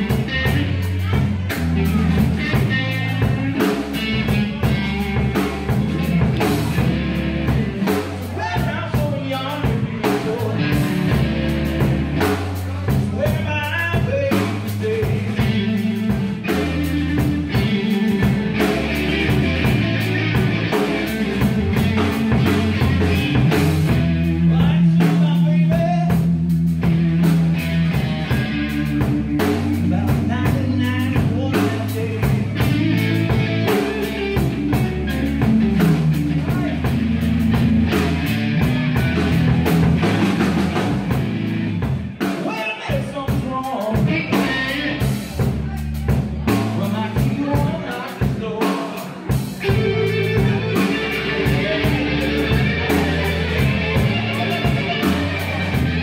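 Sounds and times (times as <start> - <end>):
drum kit: 0.0 - 56.0
electric bass: 0.0 - 56.0
electric guitar lead: 0.0 - 56.0.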